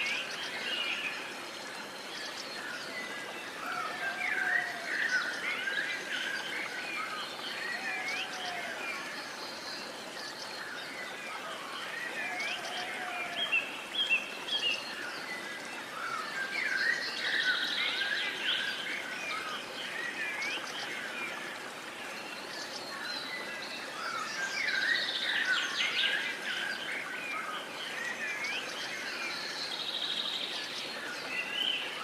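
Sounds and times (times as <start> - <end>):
outdoor background hiss: 0.0 - 32.0
wild birds chirping: 0.0 - 32.0.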